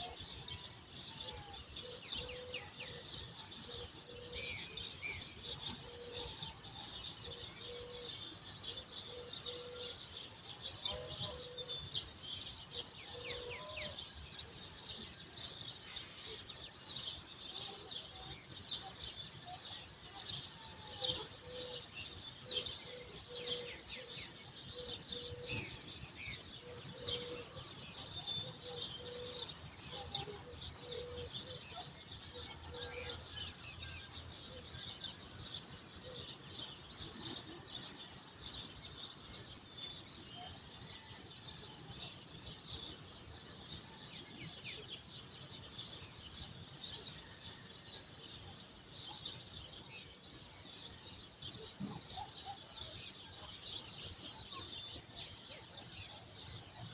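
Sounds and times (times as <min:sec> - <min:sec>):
small birds chirping and twittering: 0:00.0 - 0:56.9.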